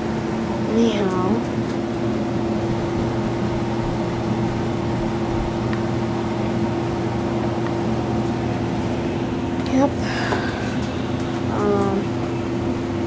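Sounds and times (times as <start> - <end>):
furnace blower humming: 0.0 - 13.0.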